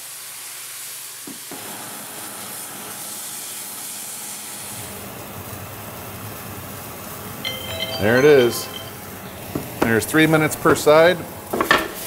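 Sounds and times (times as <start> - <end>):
meat sizzling in skillet: 0.0 - 7.4, 9.0 - 12.0.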